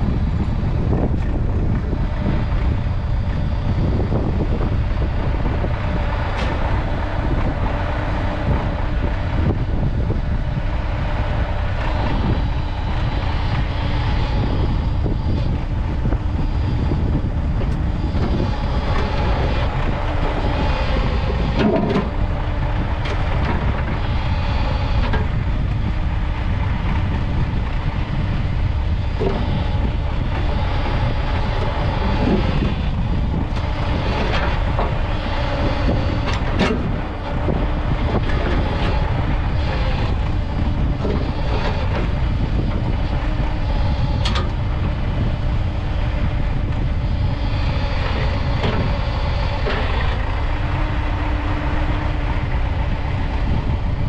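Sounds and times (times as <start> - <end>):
excavator diesel engine running: 0.0 - 54.0
steady hum: 0.0 - 54.0.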